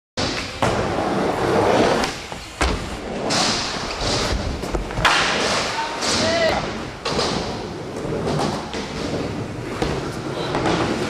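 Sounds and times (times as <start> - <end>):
skateboard impacts: 0.2 - 11.0
skateboard wheels rolling on concrete: 0.2 - 11.0.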